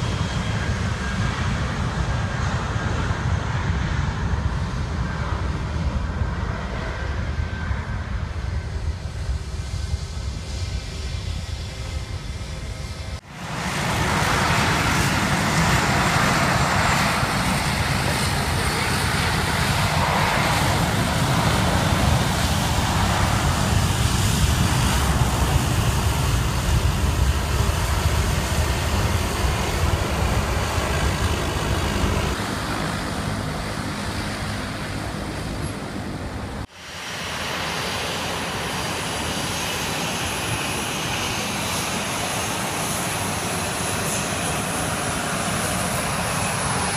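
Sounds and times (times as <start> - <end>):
jet engines roaring at takeoff: 0.0 - 46.9
jet taxiing noise: 0.0 - 46.9.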